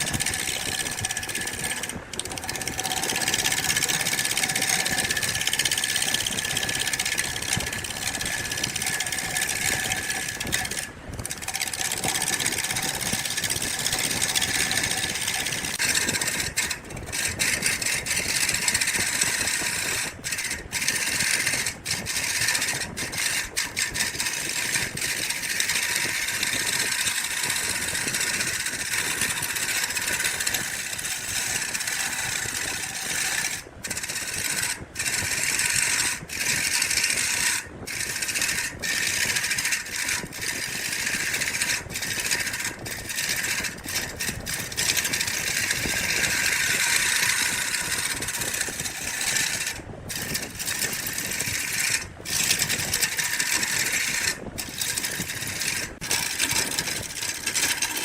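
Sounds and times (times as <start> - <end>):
power tool grinding wood: 0.0 - 58.0.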